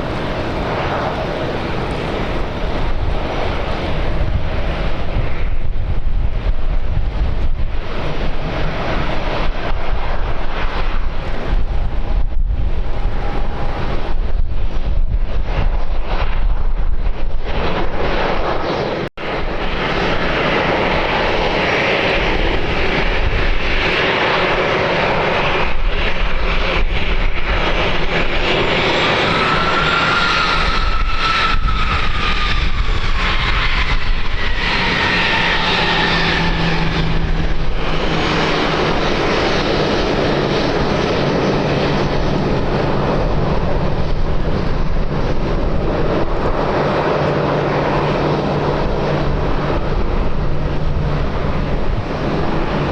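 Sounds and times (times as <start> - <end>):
airliner passing overhead: 0.0 - 52.9.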